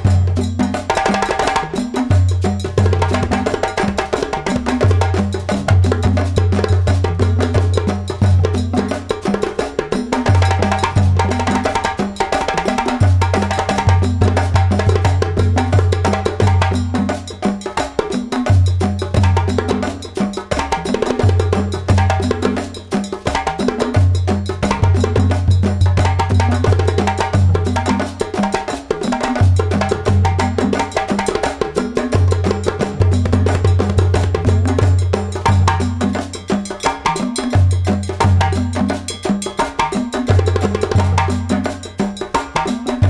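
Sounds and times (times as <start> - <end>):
percussion music with cowbell: 0.0 - 43.0.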